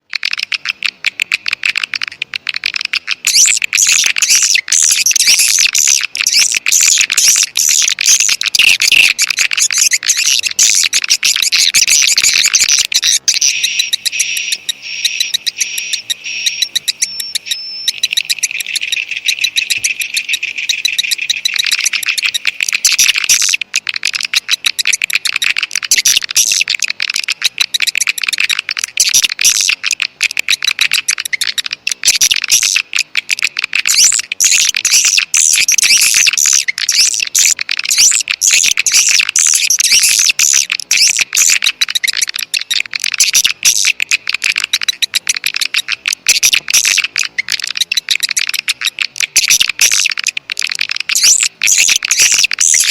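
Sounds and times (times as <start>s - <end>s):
swiftlets twittering and chirping: 0.1s - 52.9s.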